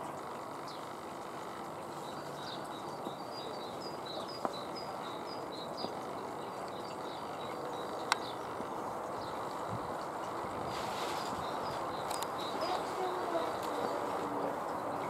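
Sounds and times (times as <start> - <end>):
small bird chirping: 0.1 - 10.2, 11.0 - 15.0.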